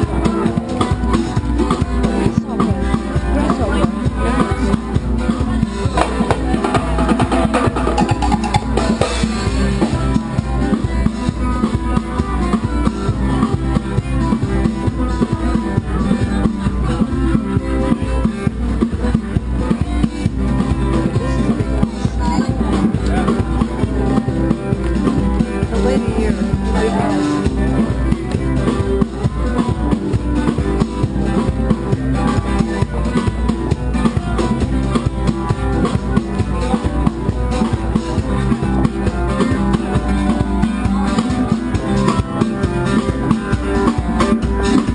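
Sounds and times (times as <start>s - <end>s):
drum kit beat: 0.0s - 44.9s
guitar: 0.0s - 44.9s
street band playing: 0.0s - 44.9s.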